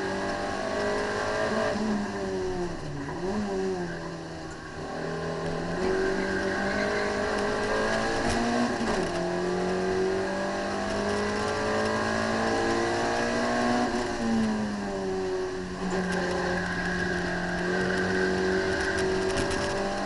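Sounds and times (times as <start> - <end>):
car engine accelerating through gears: 0.0 - 20.0.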